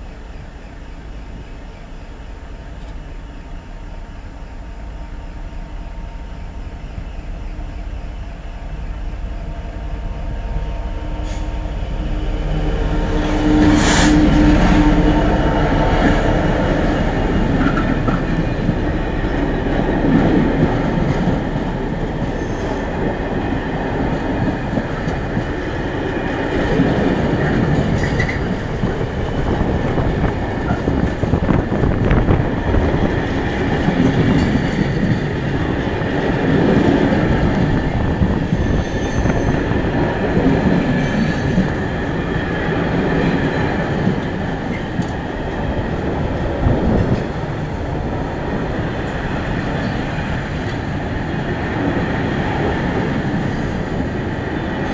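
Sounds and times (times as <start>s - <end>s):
diesel locomotive passing: 0.0s - 54.9s.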